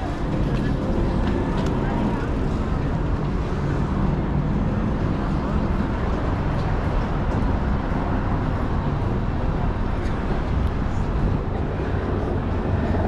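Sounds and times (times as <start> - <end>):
low traffic rumble: 0.0 - 13.0
murmur of voices: 0.0 - 13.0.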